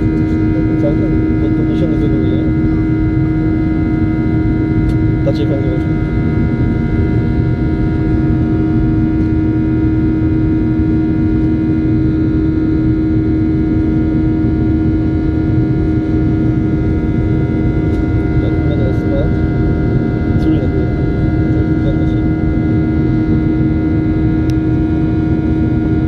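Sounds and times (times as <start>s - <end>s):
jet engine drone: 0.0s - 26.0s
steady hum tones: 0.0s - 26.0s.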